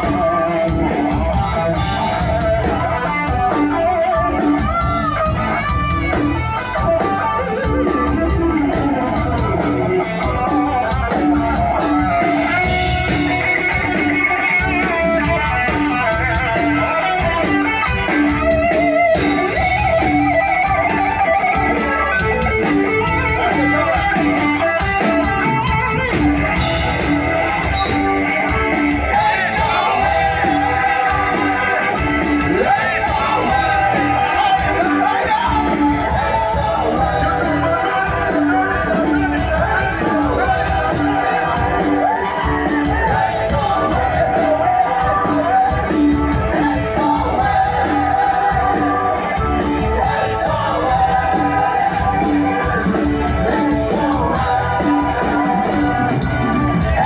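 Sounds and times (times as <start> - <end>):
bass guitar: 0.0 - 57.0
drums: 0.0 - 57.0
electric guitar melody: 0.0 - 57.0.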